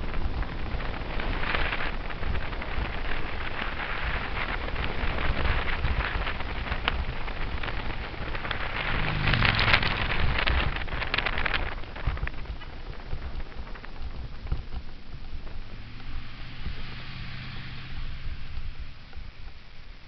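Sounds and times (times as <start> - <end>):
crackle of small ticks: 0.0 - 17.0, 18.4 - 20.0
bicycle tyres rolling on road: 0.0 - 20.0
wind on microphone: 0.0 - 20.0.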